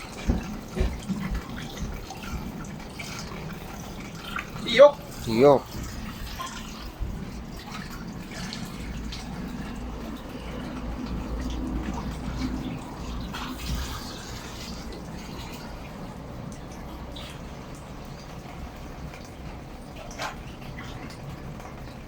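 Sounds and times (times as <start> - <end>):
water sloshing and dripping: 0.0 - 22.0.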